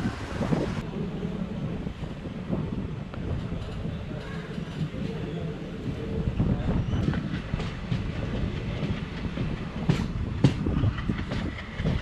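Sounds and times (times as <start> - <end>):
train wheels rumbling and clacking: 0.2 - 12.0.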